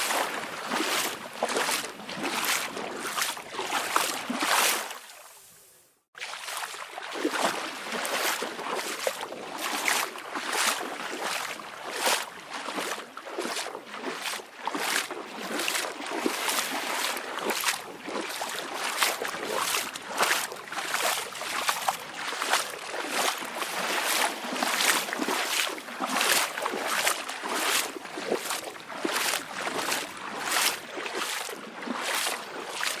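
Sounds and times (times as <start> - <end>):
small waves lapping on shore: 0.0 - 33.0.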